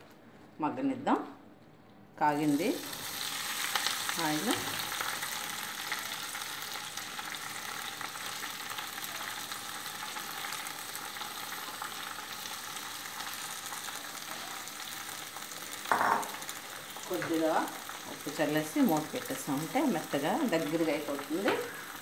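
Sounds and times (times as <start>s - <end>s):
leaves sizzling in hot oil: 2.4s - 22.0s.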